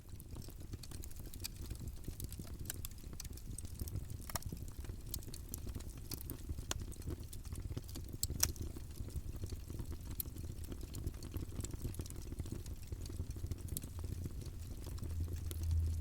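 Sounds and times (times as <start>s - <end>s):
burning wood crackling and popping: 0.0s - 16.0s
campfire flames rumbling: 0.0s - 16.0s.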